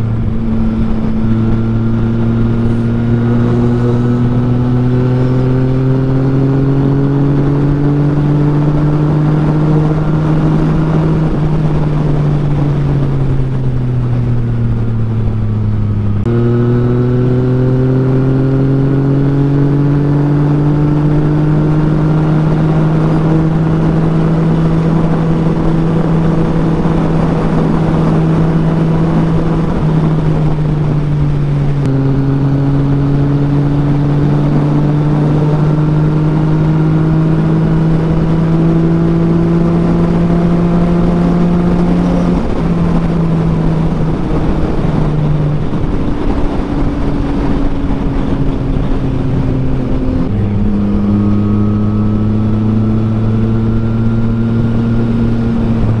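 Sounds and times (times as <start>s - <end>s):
motorcycle engine at highway speed: 0.0s - 56.0s
wind and road noise: 0.0s - 56.0s.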